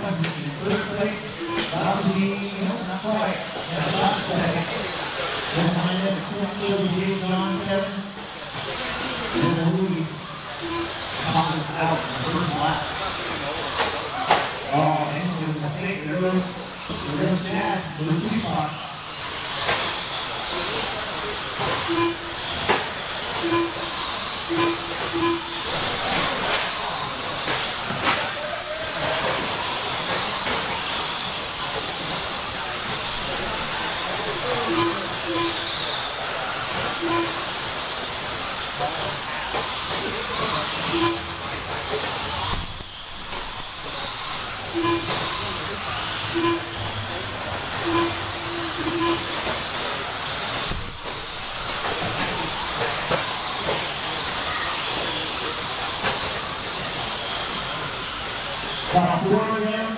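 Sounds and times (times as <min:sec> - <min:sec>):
high motor whines: 0:00.0 - 0:59.9
rc trucks racing on dirt: 0:00.0 - 0:59.9.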